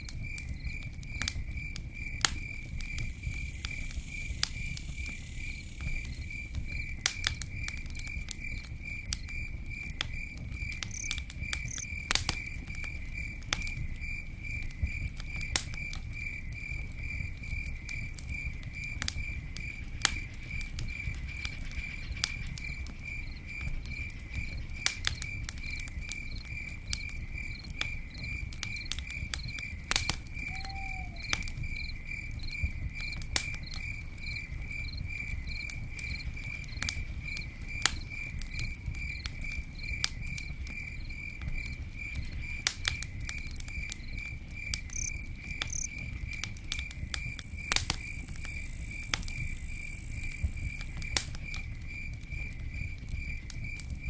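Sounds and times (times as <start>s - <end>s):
campfire crackling: 0.0s - 54.0s
cricket chirping: 0.0s - 54.0s.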